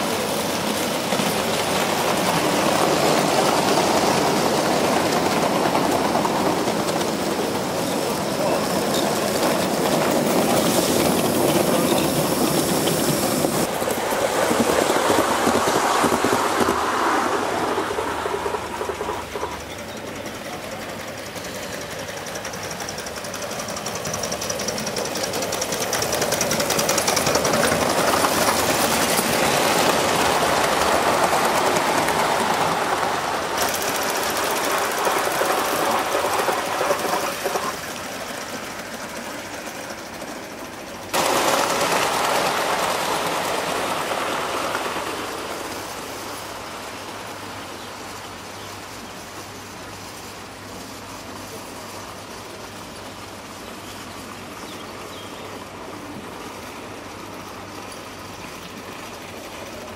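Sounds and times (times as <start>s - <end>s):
model trains clattering past: 0.0s - 59.9s.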